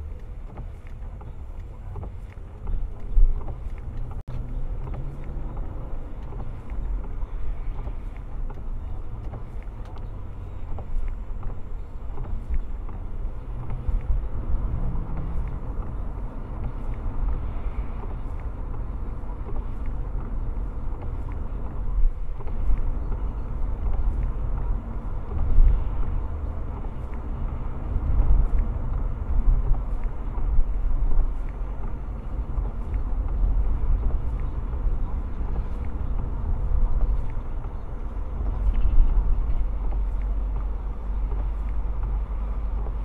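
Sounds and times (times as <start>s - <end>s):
car engine: 0.0s - 43.0s
tyres rumbling on wet road: 0.0s - 43.0s
wind noise: 0.0s - 43.0s.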